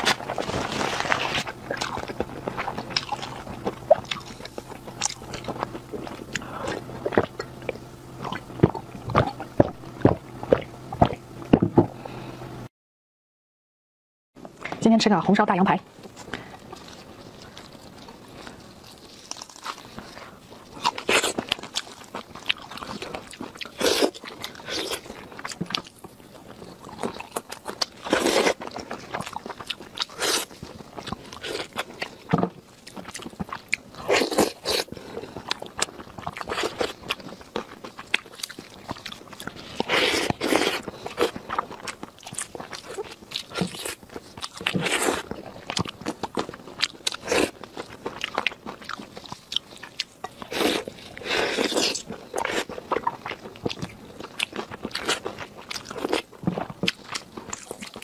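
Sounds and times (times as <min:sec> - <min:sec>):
person chewing ribs: 0:00.0 - 0:12.2, 0:16.0 - 0:58.0.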